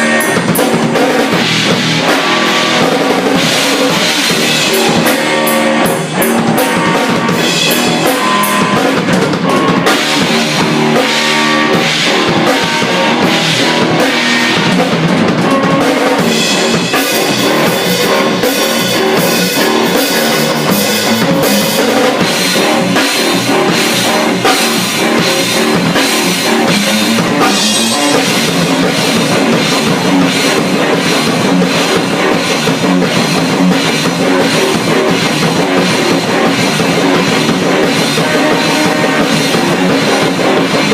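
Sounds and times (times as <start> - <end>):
rock drum kit beats: 0.0 - 40.9
sustained guitar chords: 0.0 - 40.9.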